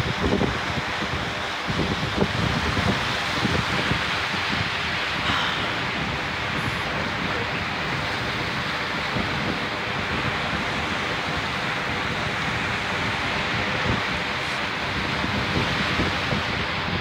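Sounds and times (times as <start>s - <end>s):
surf washing onto rocks: 0.0s - 17.0s
wind buffeting microphone: 0.0s - 17.0s.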